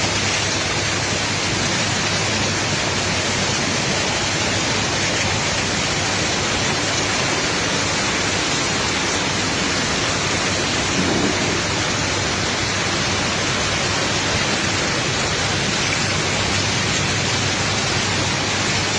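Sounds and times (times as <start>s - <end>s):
heavy rain hissing: 0.0s - 18.9s.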